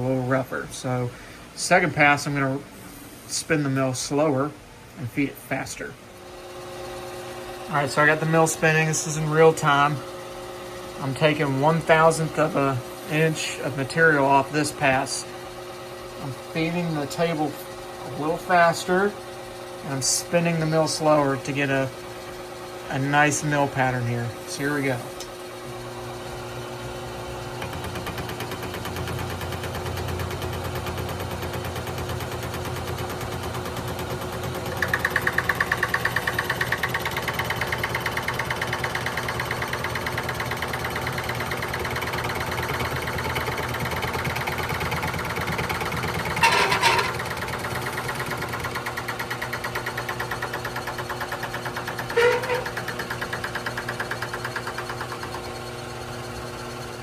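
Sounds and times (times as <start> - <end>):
milling machine hum: 0.0 - 57.0.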